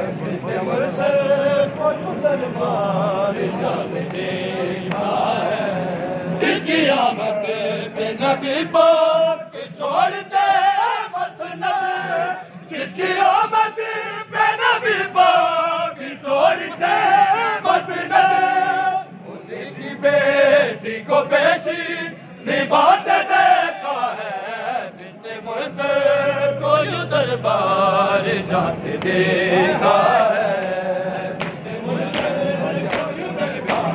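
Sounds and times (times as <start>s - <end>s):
lead voice singing: 0.0s - 33.9s
men chanting a lament: 0.0s - 33.9s.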